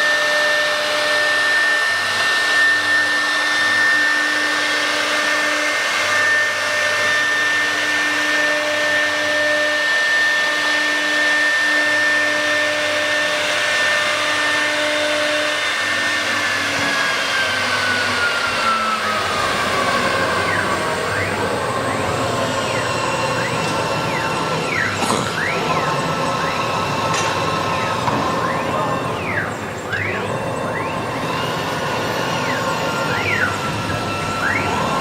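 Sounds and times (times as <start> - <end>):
loud rushing machine noise: 0.0 - 35.0
router spindle high whine: 0.0 - 35.0.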